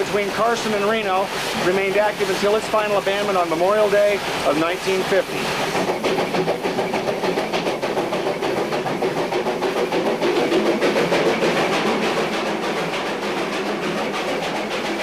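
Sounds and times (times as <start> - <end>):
train rumbling: 0.0 - 15.0
wheels clicking on rails: 0.0 - 15.0.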